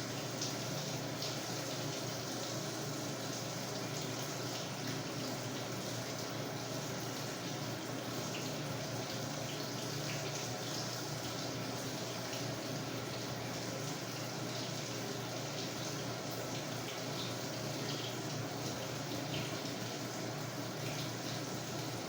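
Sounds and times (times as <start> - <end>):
water rushing in washer tub: 0.0 - 22.0.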